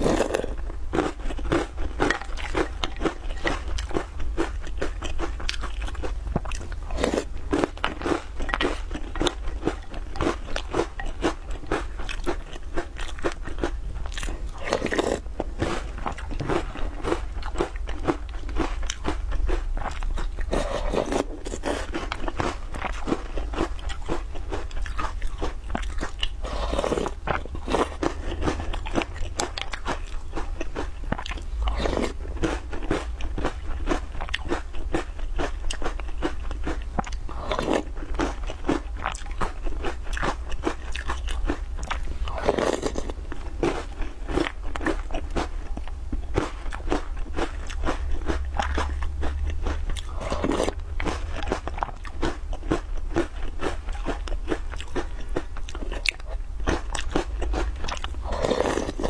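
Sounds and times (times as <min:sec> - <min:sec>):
crunching and chewing: 0:00.0 - 0:59.0.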